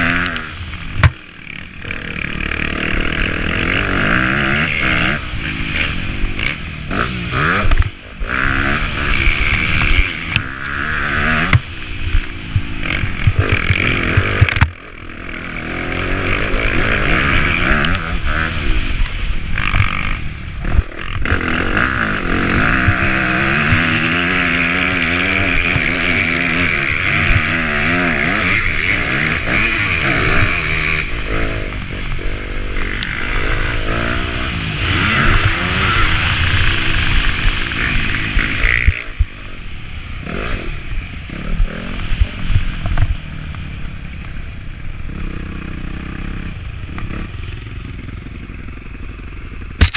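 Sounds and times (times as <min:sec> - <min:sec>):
motocross bike engine revving: 0:00.0 - 0:44.2, 0:44.8 - 0:49.9.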